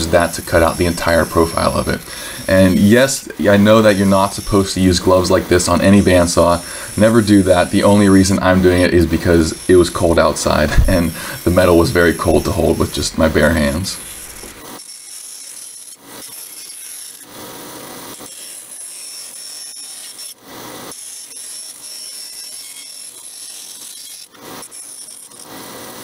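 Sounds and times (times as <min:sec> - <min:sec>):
bandsaw cutting metal: 0:00.0 - 0:26.0.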